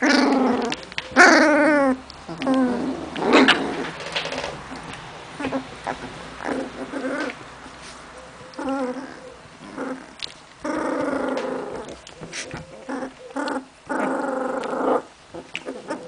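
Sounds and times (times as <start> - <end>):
puppies whining: 0.0 - 16.0.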